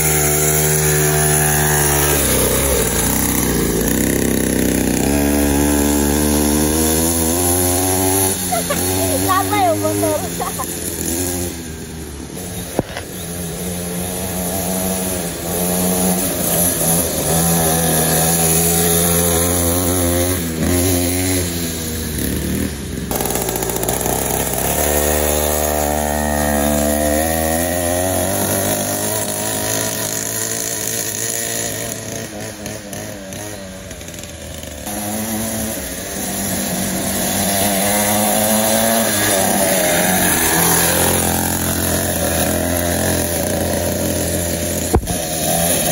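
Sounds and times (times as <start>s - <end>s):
small two-stroke engine revving: 0.0s - 45.9s.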